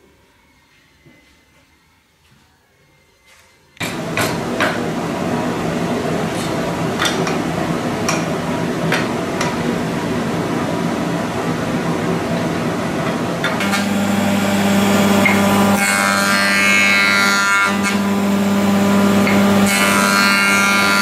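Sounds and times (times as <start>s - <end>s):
workshop machine hum: 3.3s - 21.0s
motor humming: 3.8s - 21.0s.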